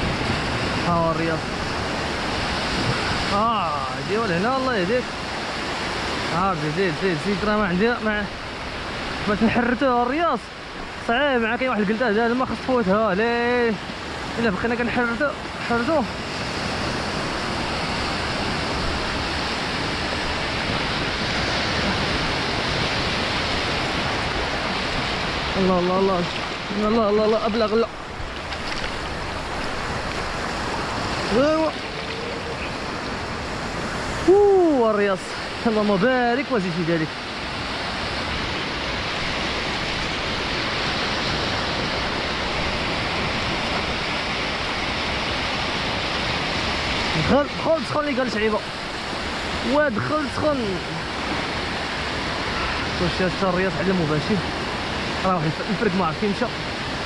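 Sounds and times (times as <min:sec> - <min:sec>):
ocean surf on shoreline: 0:00.0 - 0:57.0.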